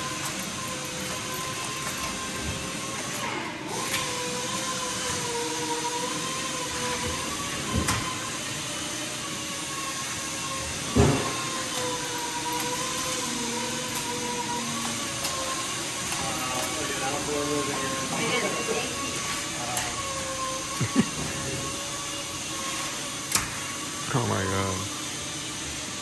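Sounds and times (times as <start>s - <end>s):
steady machine drone: 0.0s - 26.0s.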